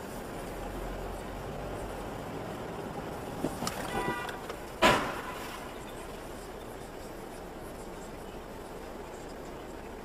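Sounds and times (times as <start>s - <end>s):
car road noise from inside: 0.0s - 10.0s.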